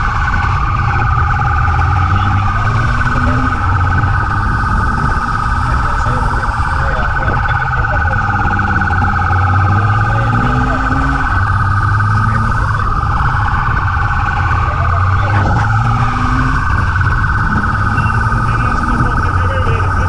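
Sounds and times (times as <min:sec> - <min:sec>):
car engine drone: 0:00.0 - 0:20.0
police siren: 0:00.0 - 0:20.0.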